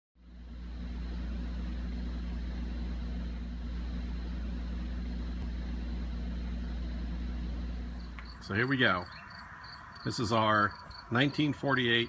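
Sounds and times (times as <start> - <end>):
low engine drone: 0.2 - 12.0.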